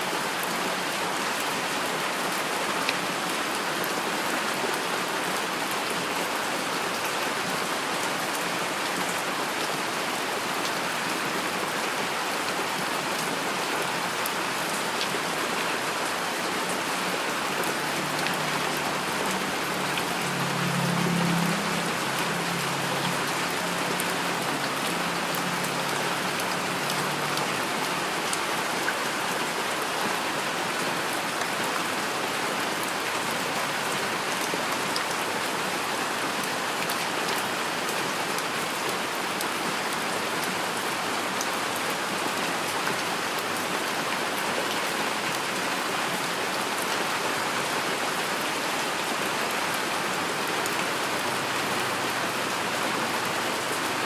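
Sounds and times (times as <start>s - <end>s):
heavy rain on surfaces: 0.0s - 54.0s.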